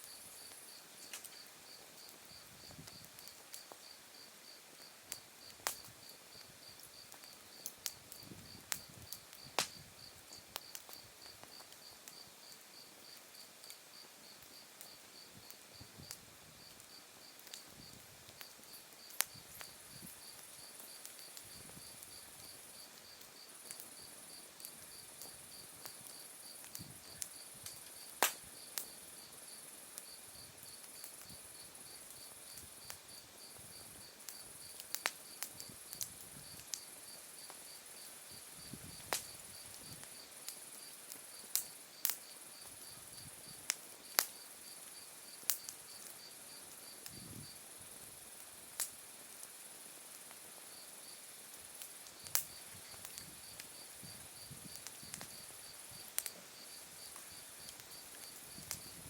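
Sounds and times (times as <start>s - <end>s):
campfire crackling and popping: 0.0s - 47.6s, 48.4s - 50.6s, 51.2s - 59.0s.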